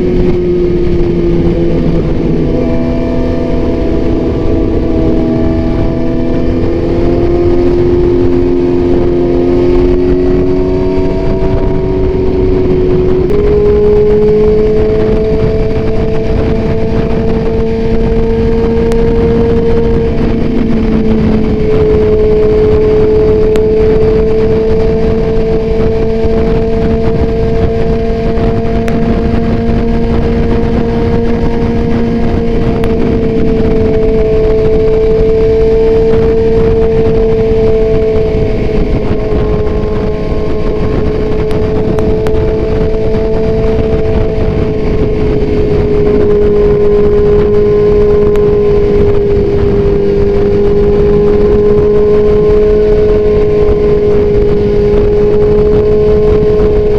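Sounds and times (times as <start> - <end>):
motorcycle engine cruising: 0.0 - 56.9
wind and road rush: 0.0 - 56.9.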